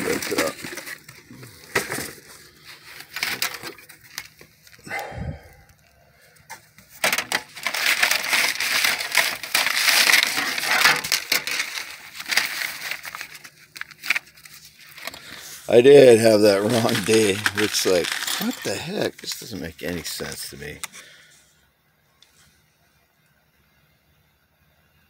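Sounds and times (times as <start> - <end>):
rustling and crackling handling: 0.0 - 4.8, 5.7 - 21.0.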